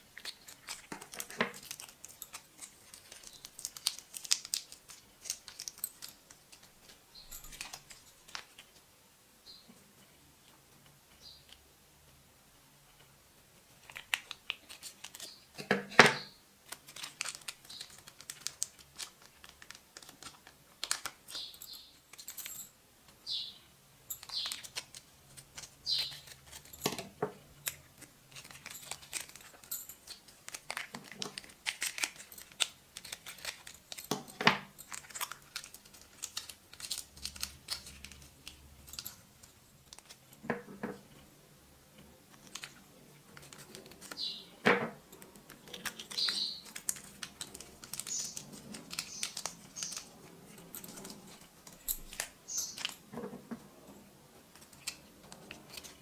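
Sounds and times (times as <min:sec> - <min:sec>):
plastic sachets crinkling: 0:00.0 - 0:08.8, 0:13.8 - 0:15.6, 0:16.6 - 0:22.6, 0:24.1 - 0:40.4, 0:42.2 - 0:44.5, 0:45.2 - 0:53.3, 0:54.5 - 0:56.0.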